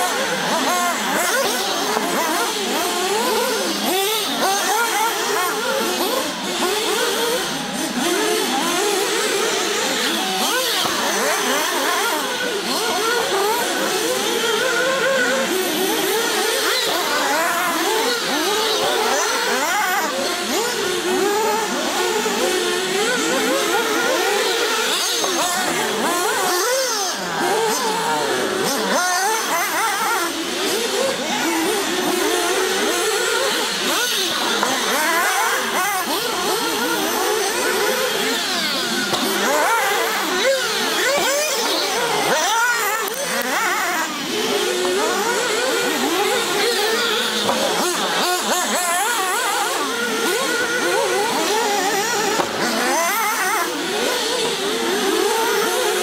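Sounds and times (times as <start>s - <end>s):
rc car engines whining: 0.0s - 56.0s.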